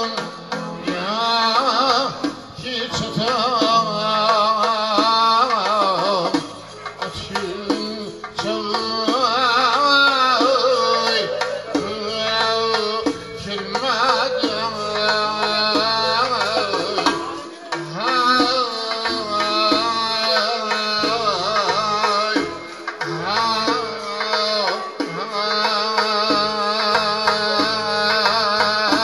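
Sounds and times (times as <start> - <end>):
hand drum rhythm: 0.0 - 29.0.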